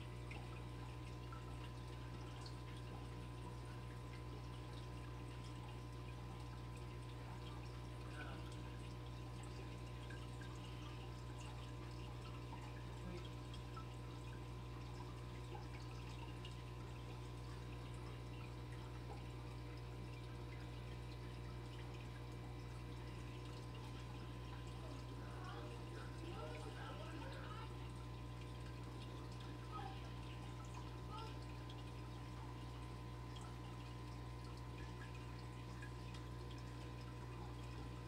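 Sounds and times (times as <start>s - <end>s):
aquarium filter hum: 0.0s - 38.0s
water trickling and dripping: 0.0s - 38.0s.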